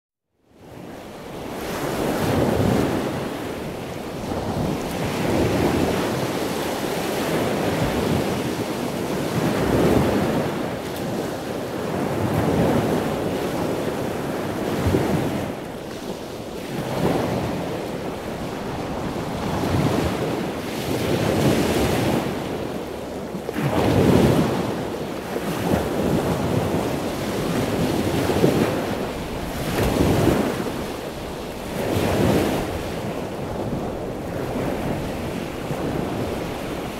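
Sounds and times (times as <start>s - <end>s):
ocean waves breaking: 0.6s - 36.9s.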